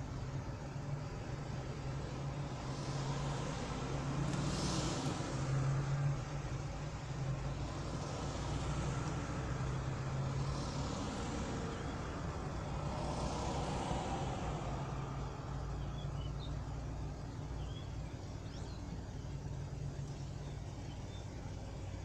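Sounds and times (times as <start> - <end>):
car idling heard from inside: 0.0 - 22.0
vehicles passing: 0.0 - 22.0.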